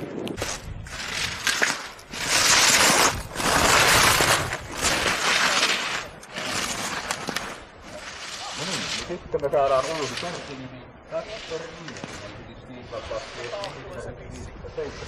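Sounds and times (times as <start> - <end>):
skis scraping through snow: 0.4 - 15.0.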